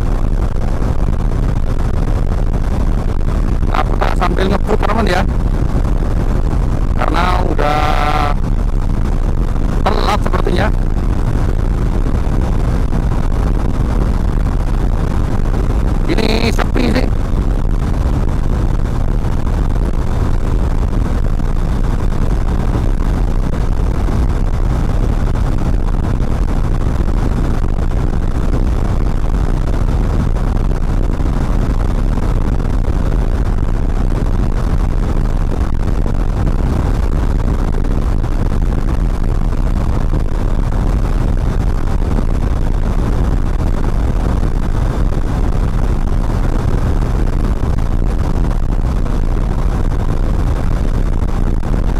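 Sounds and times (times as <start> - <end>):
wind noise: 0.0 - 51.9.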